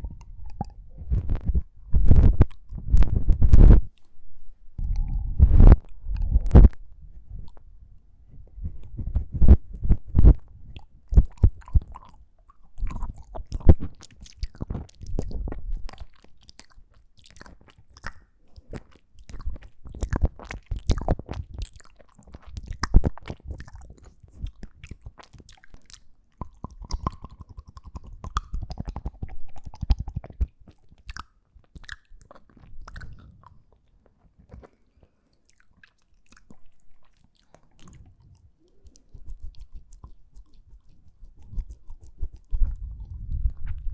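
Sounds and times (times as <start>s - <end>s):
wet mouth clicks and smacks: 0.0s - 4.1s, 10.2s - 43.9s.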